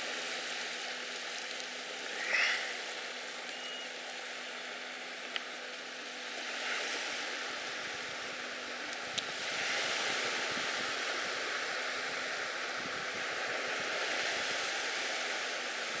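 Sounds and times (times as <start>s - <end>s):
small lake waves: 0.0s - 16.0s
wind: 0.0s - 16.0s.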